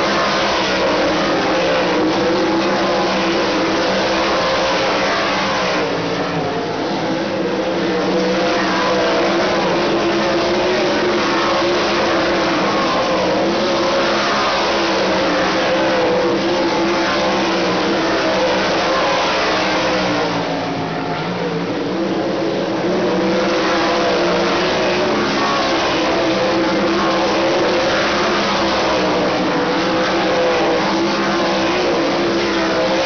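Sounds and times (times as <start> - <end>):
race car engines roaring past: 0.0 - 33.0.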